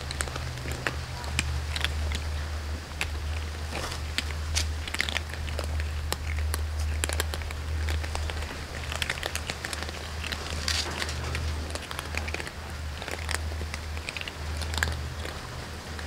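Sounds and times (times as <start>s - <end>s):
cats crunching dry kibble: 0.0s - 16.0s
low hum: 0.0s - 16.0s.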